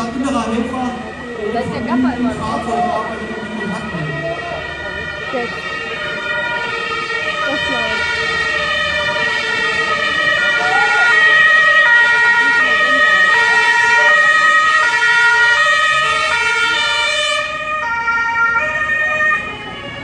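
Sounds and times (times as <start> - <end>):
two-tone emergency sirens: 0.0 - 20.0.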